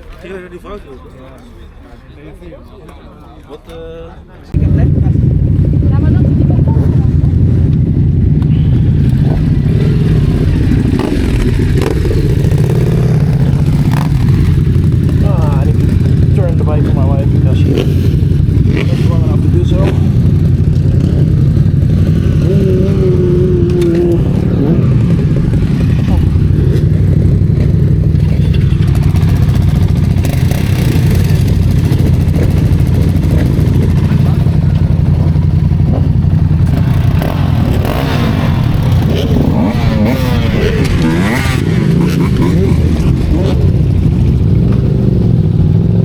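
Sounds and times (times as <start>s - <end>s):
motorcycle engine rumbling: 4.5s - 46.0s.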